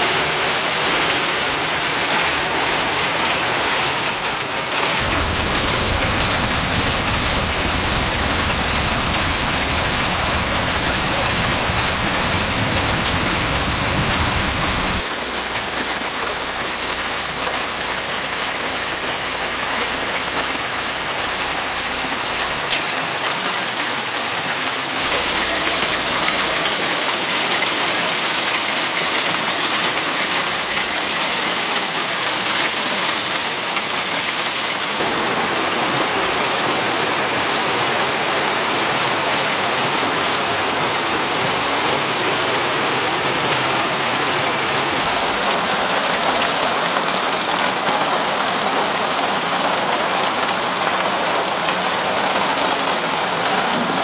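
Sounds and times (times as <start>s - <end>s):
rain on a window pane: 0.0s - 54.0s.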